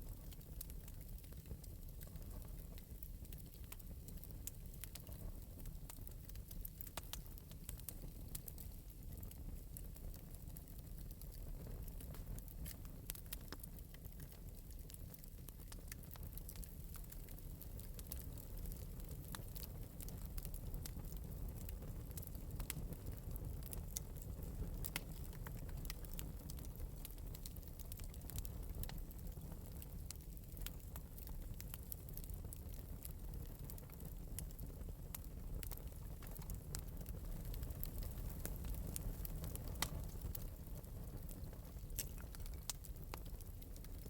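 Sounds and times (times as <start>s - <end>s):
fire crackling in fireplace: 0.0s - 44.0s.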